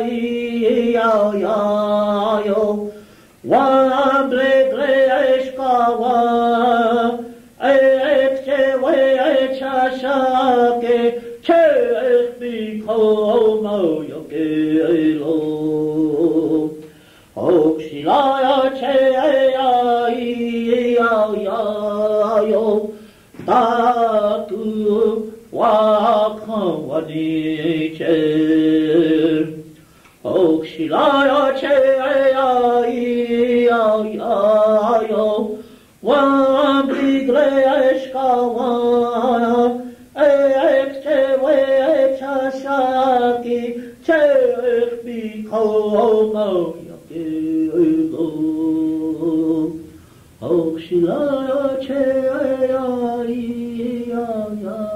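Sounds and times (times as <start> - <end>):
person chanting a song: 0.0 - 54.9.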